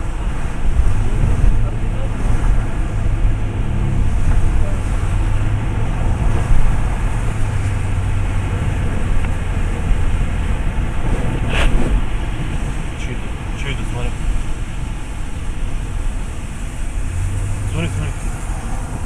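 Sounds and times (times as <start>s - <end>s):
car engine hum and road noise: 0.0s - 19.0s.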